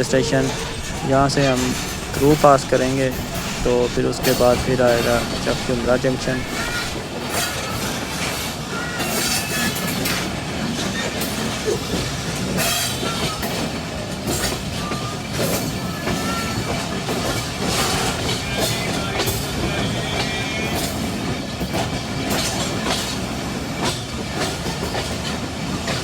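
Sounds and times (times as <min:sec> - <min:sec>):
high wheel squeals: 0:00.0 - 0:21.4
train rumble: 0:00.0 - 0:26.0
wheels clacking over rail joints: 0:00.0 - 0:26.0.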